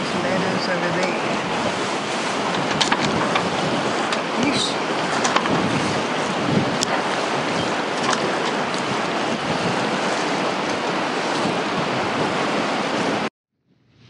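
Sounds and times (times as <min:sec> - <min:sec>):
choppy sea water: 0:00.0 - 0:13.3
wind: 0:00.0 - 0:13.3.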